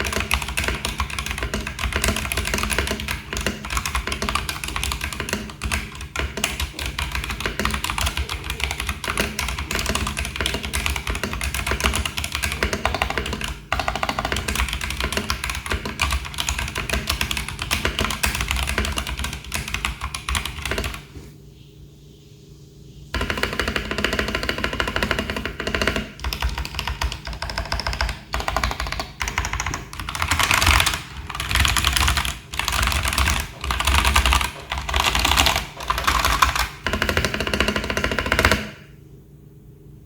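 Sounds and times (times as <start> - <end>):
typing on mechanical keyboard: 0.0 - 21.1, 23.2 - 38.7.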